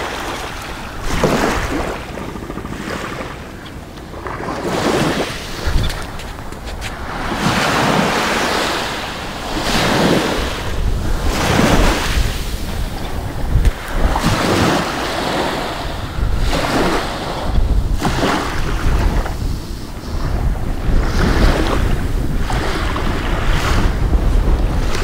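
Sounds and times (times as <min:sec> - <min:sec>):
small waves washing on beach: 0:00.0 - 0:25.0
wind buffeting microphone: 0:00.0 - 0:25.0.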